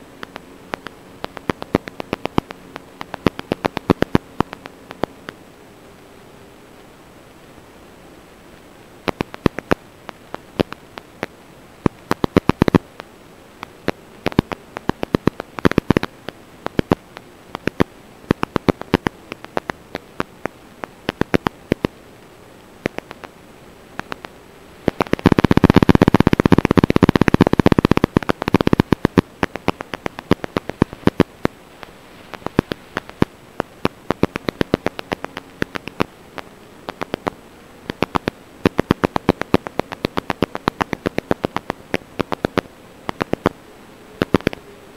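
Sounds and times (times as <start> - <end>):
crackling static: 0.0 - 44.9
steady hiss: 0.0 - 44.9.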